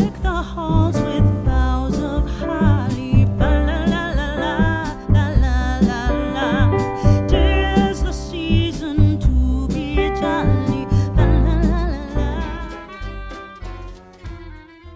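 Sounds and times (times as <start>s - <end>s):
song with bass and beat: 0.0s - 14.9s.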